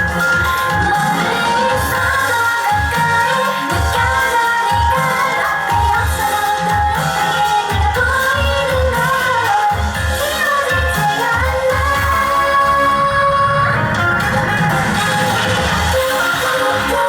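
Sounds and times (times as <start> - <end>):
person singing: 0.0 - 17.0
pop backing track with bass beat: 0.0 - 17.0.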